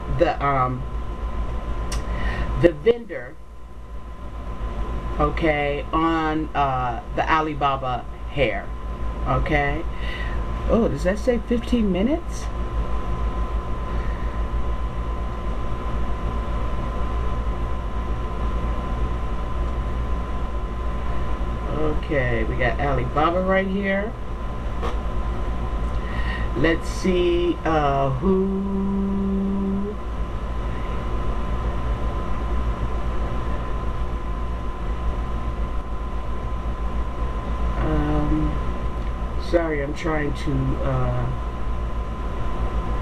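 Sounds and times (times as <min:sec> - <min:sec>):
low hum and rumble: 0:00.0 - 0:43.0.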